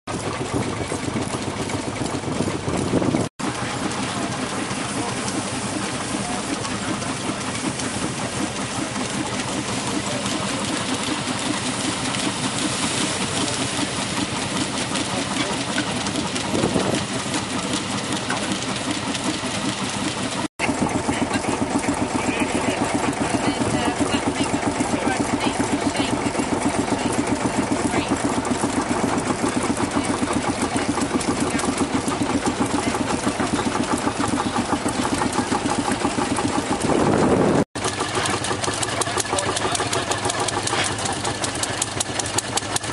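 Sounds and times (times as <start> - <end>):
threshing machine clattering: 0.1 - 42.9.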